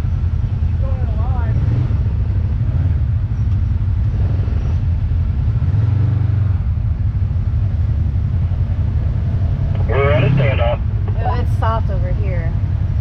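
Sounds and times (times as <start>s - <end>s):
vehicle engine running low: 0.0s - 13.0s.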